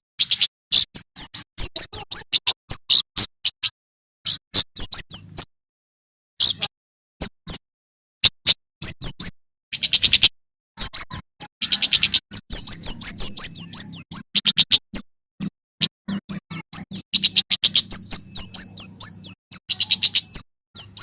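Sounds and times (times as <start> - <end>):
bird chirping and trilling: 0.2 - 5.5, 6.4 - 7.6, 8.2 - 21.0.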